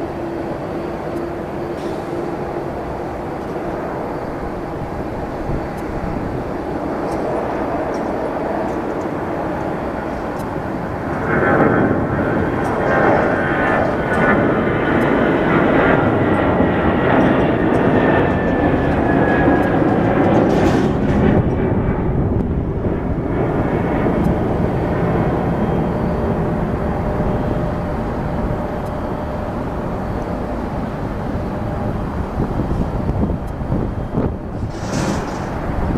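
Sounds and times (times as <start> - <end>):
jet engine whine: 0.0 - 35.9
jet engines roaring: 0.0 - 35.9.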